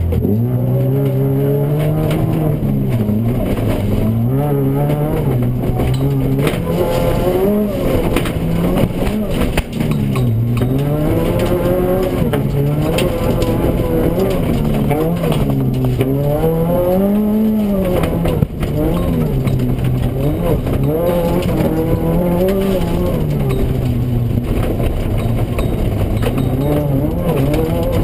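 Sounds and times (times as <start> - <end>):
car engine revving: 0.0 - 28.0
clicks and clatter on gravel: 0.0 - 28.0.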